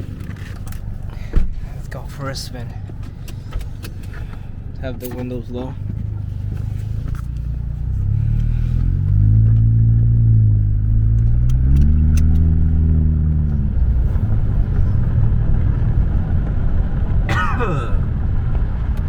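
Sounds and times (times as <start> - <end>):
car engine accelerating: 2.8 - 19.0.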